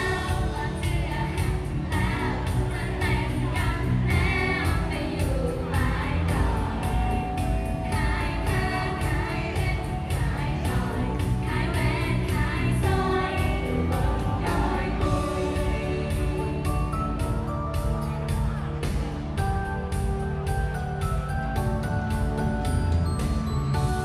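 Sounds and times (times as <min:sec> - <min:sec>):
girls singing into microphones: 0:00.0 - 0:19.3
amplified pop music: 0:00.0 - 0:24.0.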